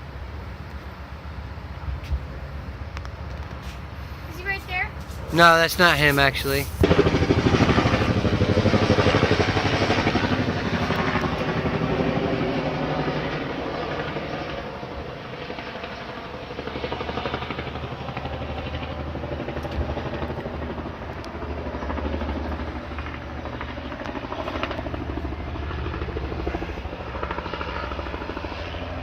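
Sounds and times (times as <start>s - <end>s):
helicopter rotor blades beating: 3.9s - 29.0s.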